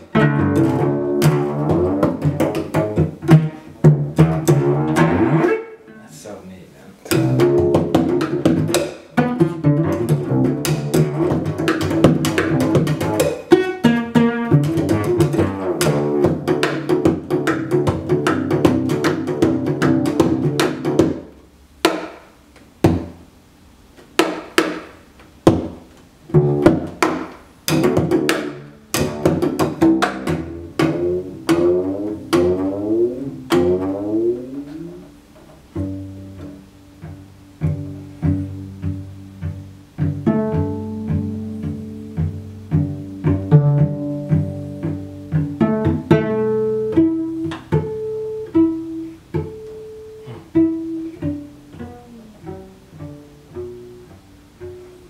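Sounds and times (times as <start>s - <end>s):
cello plucked pizzicato: 0.0s - 55.0s.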